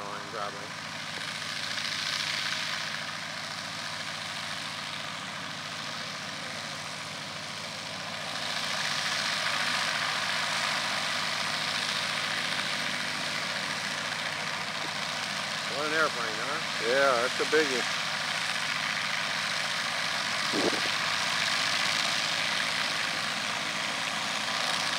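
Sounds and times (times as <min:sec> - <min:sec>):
distant propeller airplane engine: 0:00.0 - 0:24.9.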